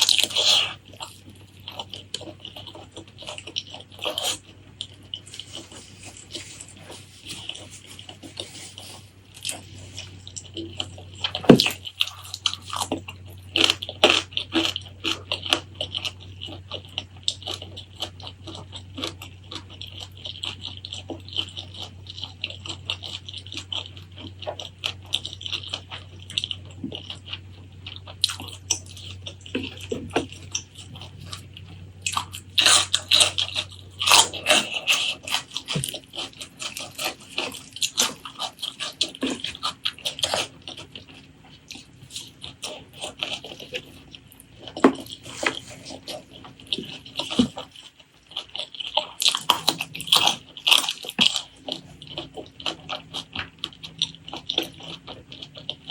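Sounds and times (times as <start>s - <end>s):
wet chewing and smacking: 0.0s - 55.9s.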